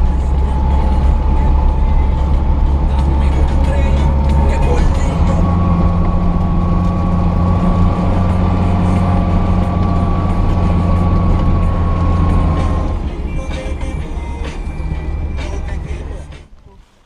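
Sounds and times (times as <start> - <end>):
car engine droning: 0.0 - 17.0
drivetrain whine: 0.0 - 17.0.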